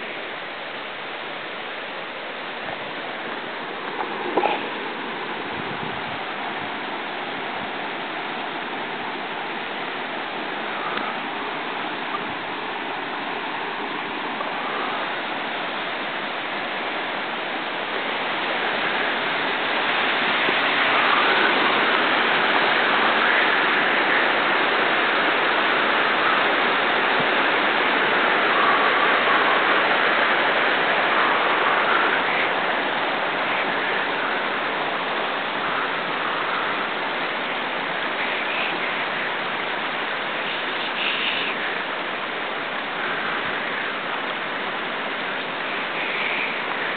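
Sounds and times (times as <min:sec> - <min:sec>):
running water rushing: 0:00.0 - 0:46.9.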